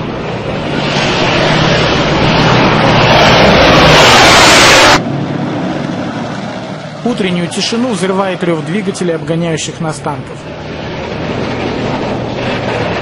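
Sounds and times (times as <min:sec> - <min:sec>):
tank engines roaring: 0:00.0 - 0:13.0.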